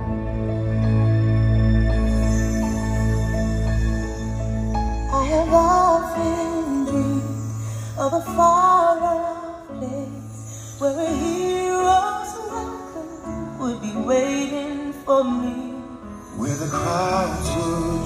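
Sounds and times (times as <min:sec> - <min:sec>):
soundtrack music: 0:00.0 - 0:18.0.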